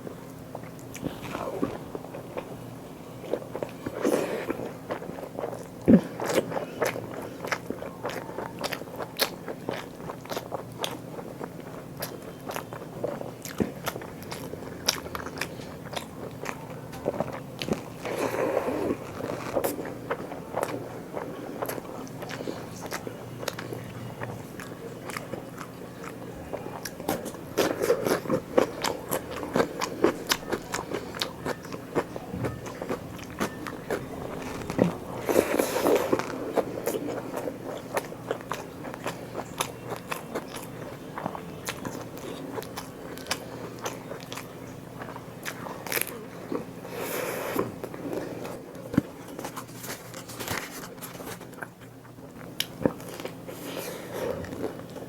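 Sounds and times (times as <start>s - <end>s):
person crunching food: 3.2s - 55.0s.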